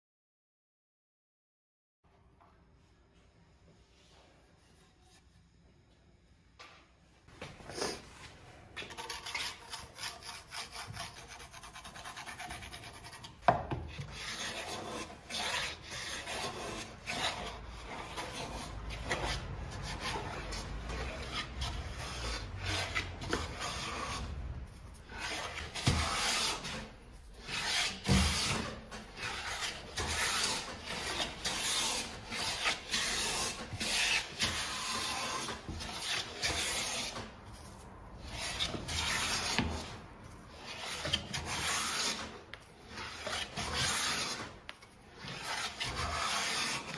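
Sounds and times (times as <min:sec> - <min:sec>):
hand plane shaving wood: 0:08.8 - 0:46.9.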